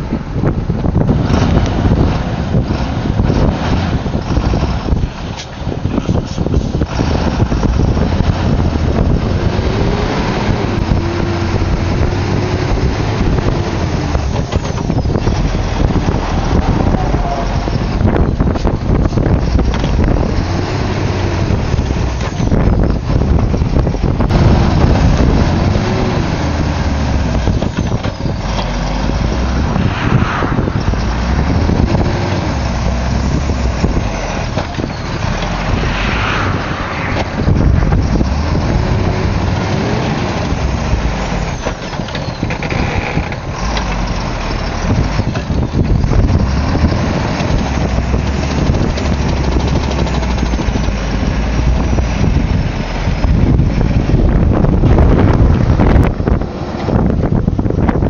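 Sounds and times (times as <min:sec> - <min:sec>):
steady low rumble: 0:00.0 - 0:58.0
truck diesel engine revving: 0:00.0 - 0:58.0.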